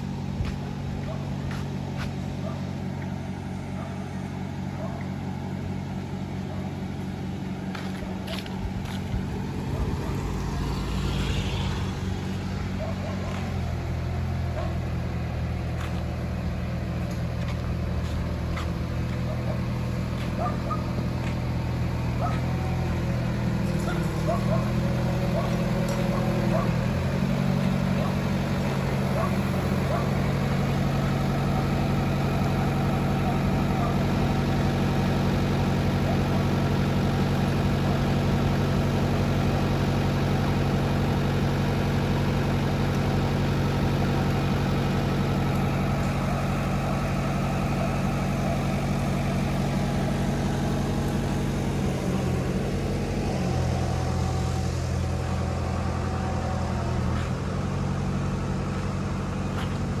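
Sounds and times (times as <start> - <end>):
vehicle engine running: 0.0 - 60.0.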